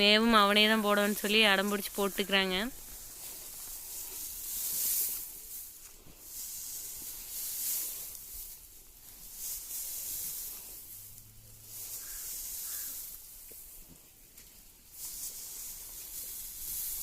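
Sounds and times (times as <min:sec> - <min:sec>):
dry fodder rustling: 0:00.0 - 0:17.0.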